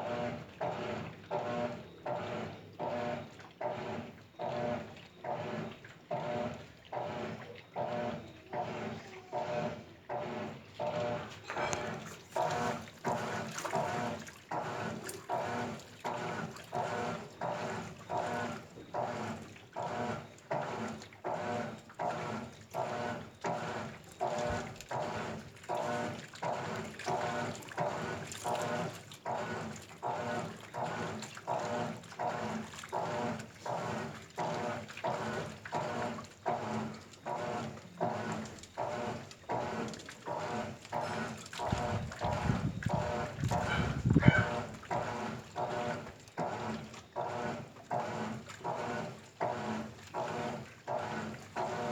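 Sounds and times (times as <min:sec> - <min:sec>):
washing machine churning water: 0:00.0 - 0:51.9.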